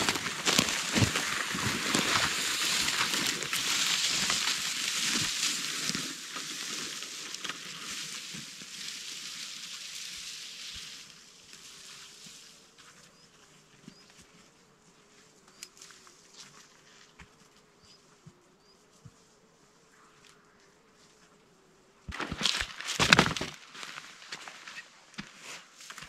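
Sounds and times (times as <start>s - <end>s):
footsteps through dry brush: 0.0s - 18.0s, 22.1s - 26.0s
insect whining hum: 0.0s - 22.6s.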